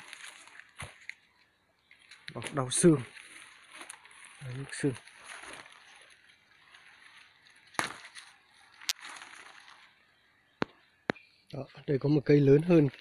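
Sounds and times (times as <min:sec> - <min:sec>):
twigs snapping: 0:00.0 - 0:01.3, 0:01.9 - 0:11.6
dry leaves rustling: 0:00.0 - 0:10.8, 0:12.3 - 0:13.0.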